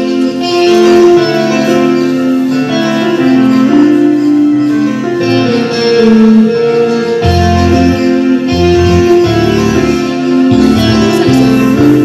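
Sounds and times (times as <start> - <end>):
slow keyboard melody: 0.0 - 12.0.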